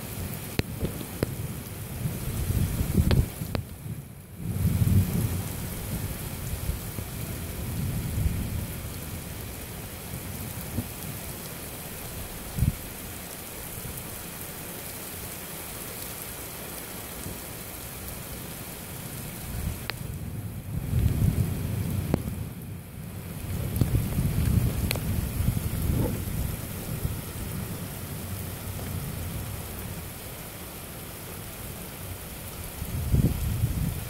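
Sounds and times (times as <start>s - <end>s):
heavy rain hissing: 0.0s - 34.0s
wind gusts rumbling: 0.3s - 13.1s, 19.2s - 34.0s.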